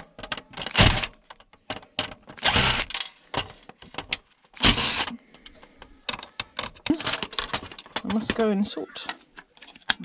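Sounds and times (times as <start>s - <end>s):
clicks and knocks of plastic parts: 0.0s - 10.0s.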